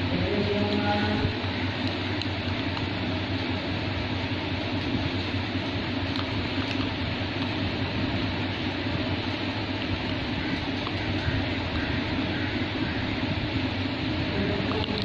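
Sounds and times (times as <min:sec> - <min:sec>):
steady background hum and hiss: 0:00.0 - 0:15.0.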